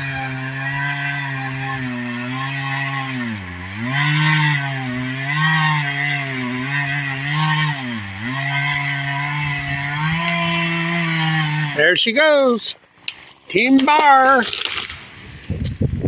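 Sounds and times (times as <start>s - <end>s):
chainsaw cutting through tree: 0.0s - 16.0s.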